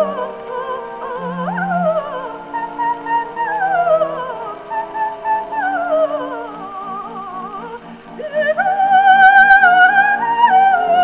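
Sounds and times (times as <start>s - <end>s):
musical accompaniment: 0.0s - 11.0s
soprano singing opera: 0.0s - 11.0s.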